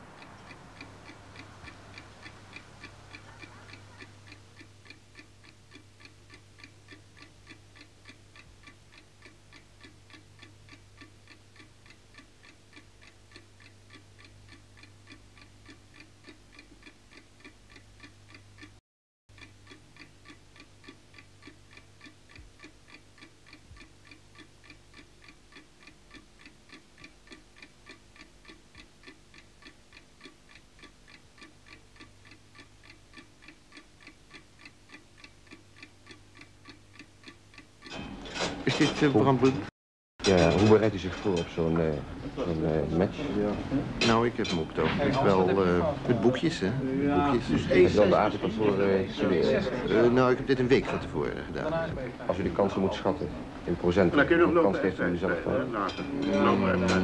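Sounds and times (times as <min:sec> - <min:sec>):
clock ticking: 0:00.0 - 0:39.6, 0:44.0 - 0:51.0
low steady hum: 0:00.0 - 0:57.0.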